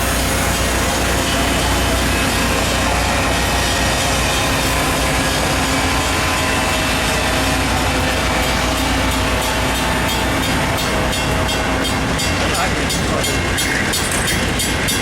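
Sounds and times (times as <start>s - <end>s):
train wheels rumbling: 0.0s - 15.0s
steady ringing tones: 1.7s - 15.0s.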